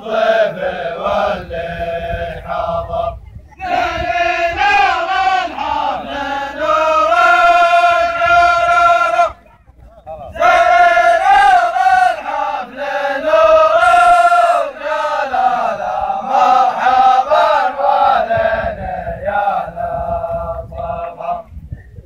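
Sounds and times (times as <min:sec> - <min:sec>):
men chanting: 0:00.0 - 0:09.4, 0:10.2 - 0:21.5.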